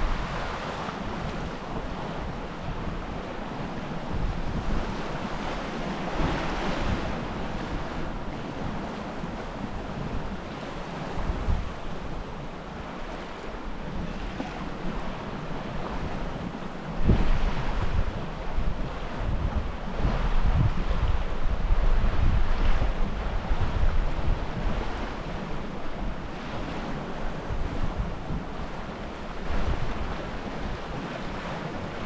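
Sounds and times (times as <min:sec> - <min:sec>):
water washing along hull: 0:00.0 - 0:32.0
wind buffeting microphone: 0:00.0 - 0:32.0.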